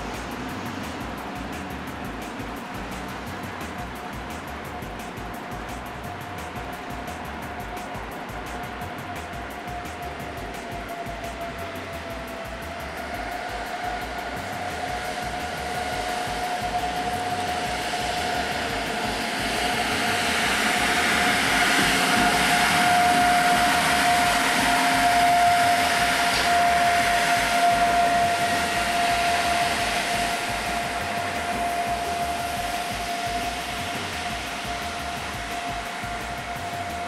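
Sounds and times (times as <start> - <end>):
electric locomotive fans humming: 0.0 - 37.0
steady high tone: 6.8 - 37.0.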